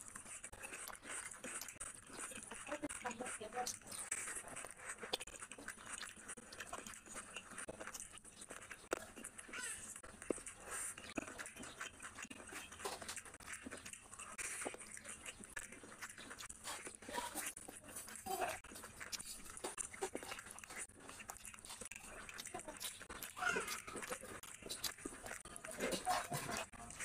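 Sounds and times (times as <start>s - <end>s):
fingers mixing food on plate: 0.0s - 27.0s
person chewing with wet smacks: 0.0s - 27.0s.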